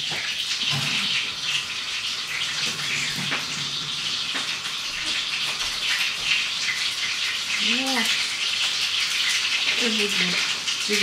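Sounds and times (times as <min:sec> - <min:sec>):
tap water splashing into sink: 0:00.0 - 0:11.0.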